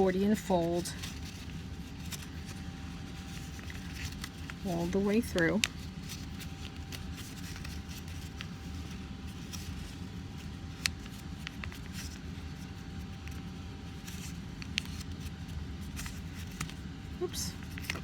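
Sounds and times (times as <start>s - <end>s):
low room hum: 0.0s - 18.0s
paper crinkling and tapping: 0.0s - 18.0s.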